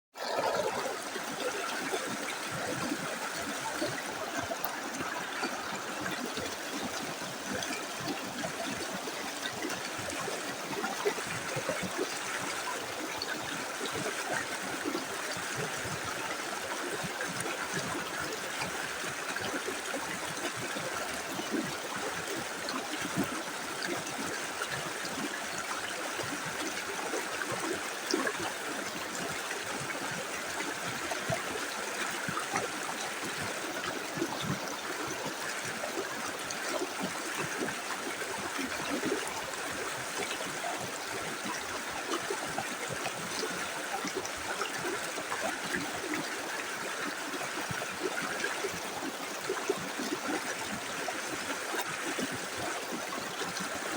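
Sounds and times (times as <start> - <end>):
river flowing over stones: 0.1 - 53.9.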